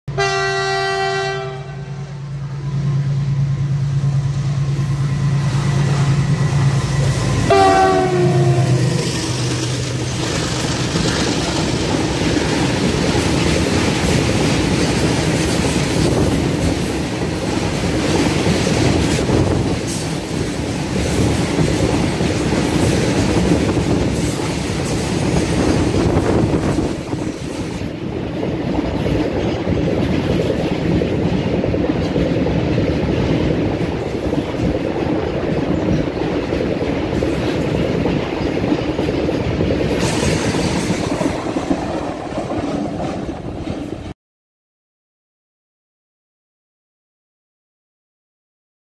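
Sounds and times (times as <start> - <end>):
freight train wheels rumbling on rails: 0.1 - 44.2.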